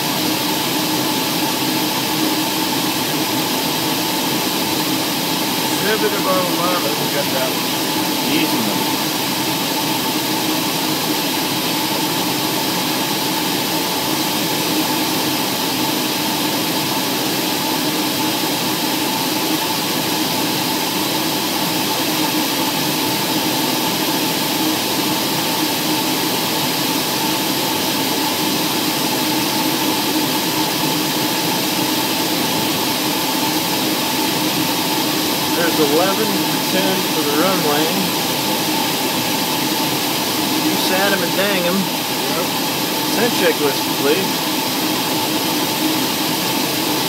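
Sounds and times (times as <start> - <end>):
aircraft cabin engine drone: 0.0 - 47.0.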